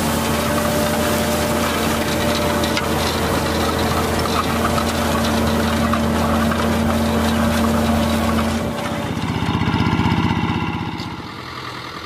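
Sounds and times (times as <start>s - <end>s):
cultivator tines tearing soil: 0.0s - 11.2s
tractor engine running: 0.0s - 12.0s
walking tractor engine chugging: 0.0s - 12.0s.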